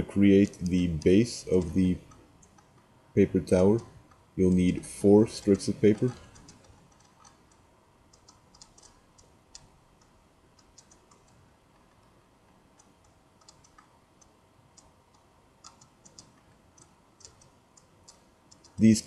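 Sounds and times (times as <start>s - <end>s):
faint room hiss: 0.0s - 19.0s.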